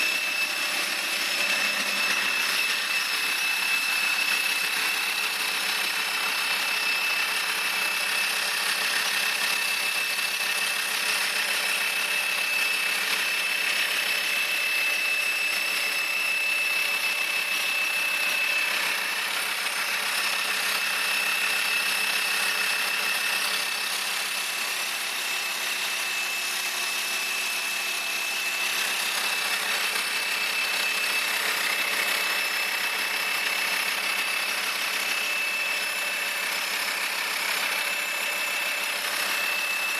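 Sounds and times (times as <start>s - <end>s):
steady high-pitched whistle: 0.0s - 5.6s, 6.3s - 8.3s, 11.7s - 39.9s.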